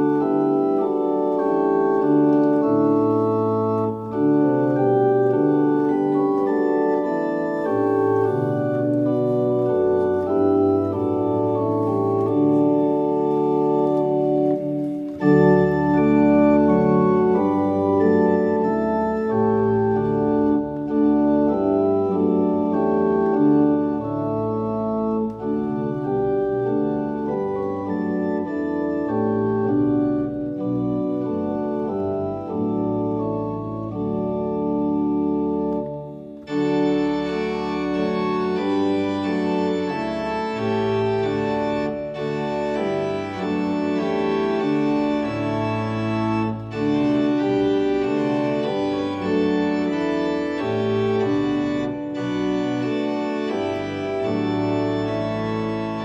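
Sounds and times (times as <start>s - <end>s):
electronic organ playing classical piece: 0.0s - 56.0s.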